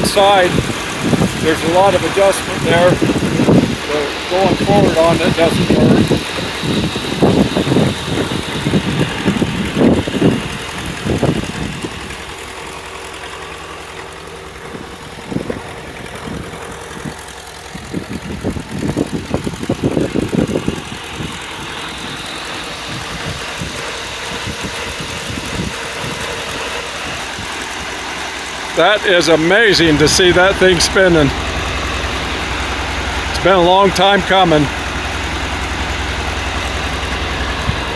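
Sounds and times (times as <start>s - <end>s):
sawmill engine and spinning blade: 0.0s - 37.9s.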